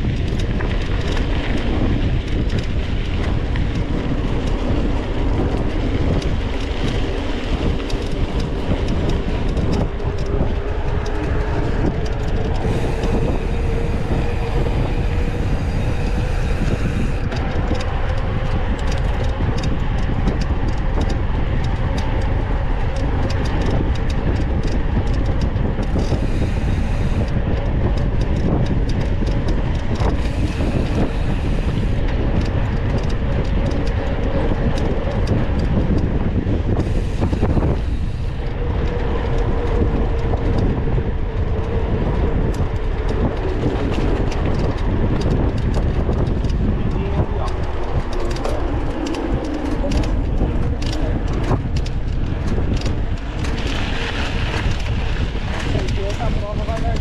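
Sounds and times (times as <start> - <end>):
bike rattling and clicking: 0.0 - 57.0
wind buffeting microphone: 0.0 - 57.0.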